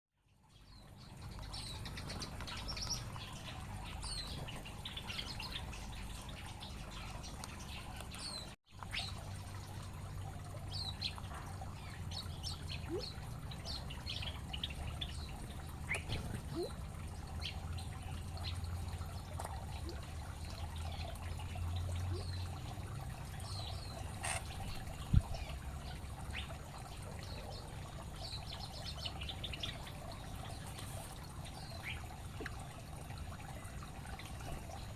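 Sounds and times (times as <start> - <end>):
small birds chirping: 0.3 - 9.2, 10.7 - 32.9.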